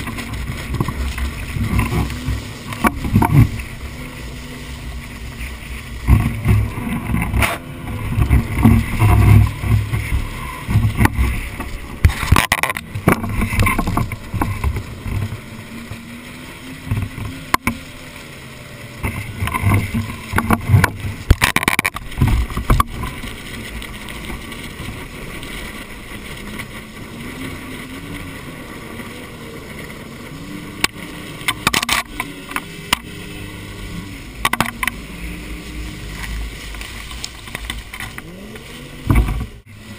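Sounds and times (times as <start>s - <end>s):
outboard motor running: 0.0s - 39.9s
water slapping against a boat: 0.0s - 39.9s
water splashes: 0.0s - 39.9s.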